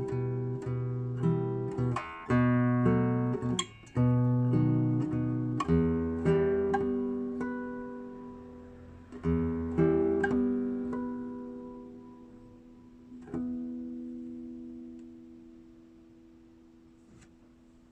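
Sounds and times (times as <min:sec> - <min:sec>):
acoustic guitar plucked chords: 0:00.0 - 0:17.9.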